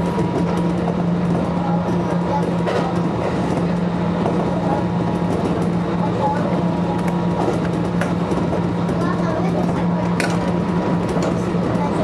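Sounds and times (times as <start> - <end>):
constant low hum: 0.0 - 12.0
electric train running noise: 0.0 - 12.0.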